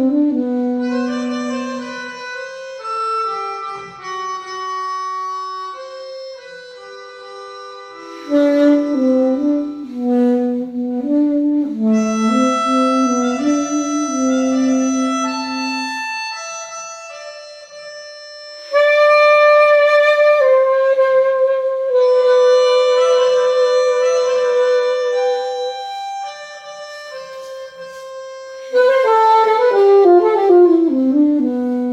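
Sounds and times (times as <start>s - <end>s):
alto saxophone melody: 0.0s - 31.9s
recorded melodica piece: 0.0s - 31.9s.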